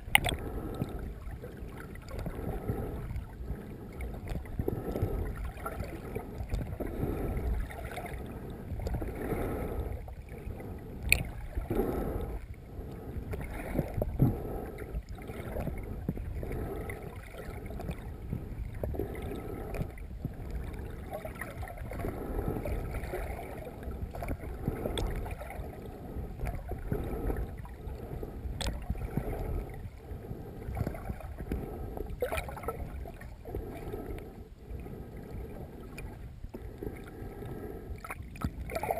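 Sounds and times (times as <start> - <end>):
underwater water churning: 0.0 - 38.9.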